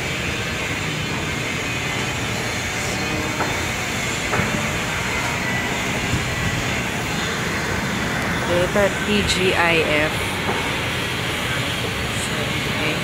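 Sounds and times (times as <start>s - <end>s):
escalator rumble and hiss: 0.0s - 13.0s.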